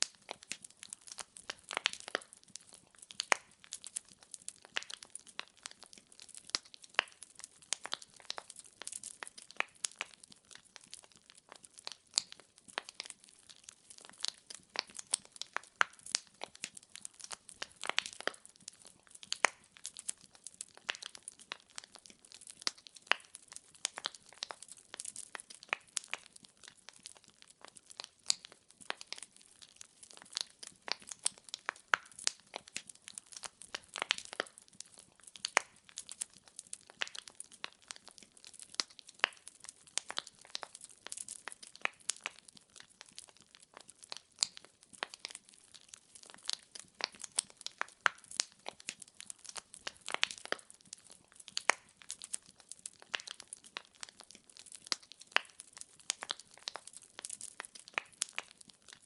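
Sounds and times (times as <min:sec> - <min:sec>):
firewood crackling: 0:00.0 - 0:59.0.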